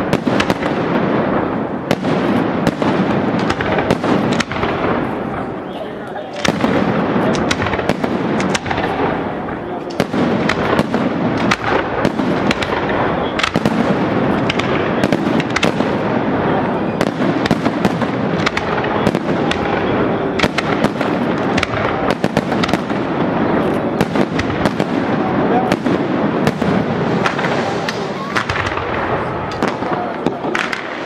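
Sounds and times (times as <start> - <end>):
firework shell bursts and crackling: 0.0 - 5.5, 6.3 - 31.0
sharp firework cracks: 0.0 - 5.6, 6.3 - 31.0.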